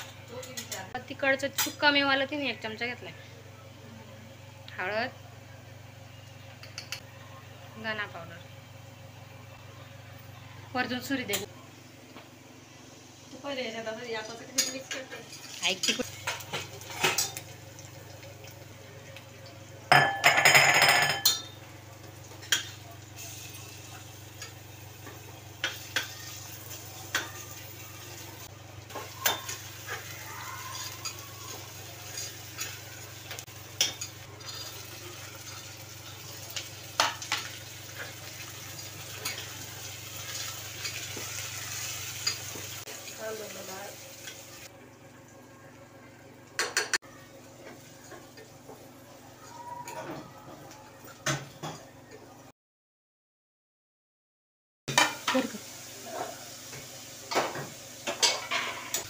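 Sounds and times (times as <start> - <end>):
faint sizzle: 0.0 - 52.5, 54.9 - 59.0.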